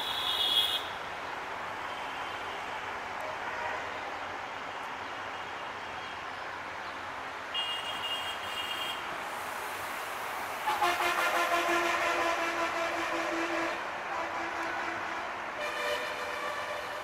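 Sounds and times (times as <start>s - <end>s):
vehicle noise hiss and rumble: 0.0s - 17.0s.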